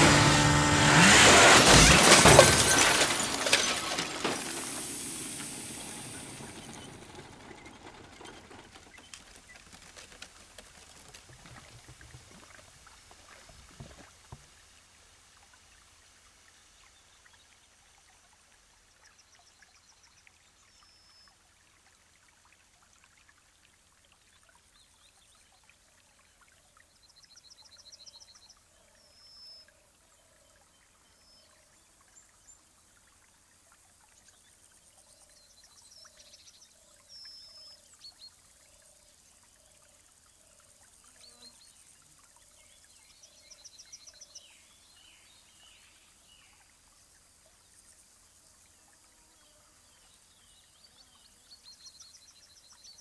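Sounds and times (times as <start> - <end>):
low steady hiss: 2.1 - 53.0.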